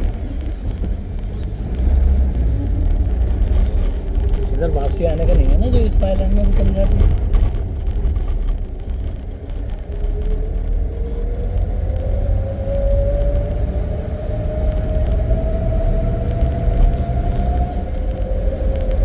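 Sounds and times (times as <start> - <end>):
rising engine whine: 0.0 - 19.0
vehicle engine and road rumble: 0.0 - 19.0.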